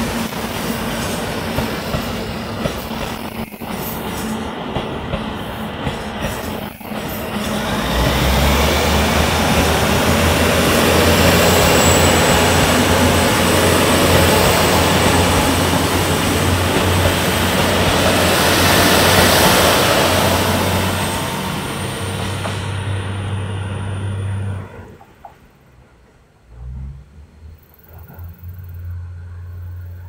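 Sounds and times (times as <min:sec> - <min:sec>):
train wheels on rails: 0:00.0 - 0:26.9
diesel train engine rumble: 0:00.0 - 0:30.0.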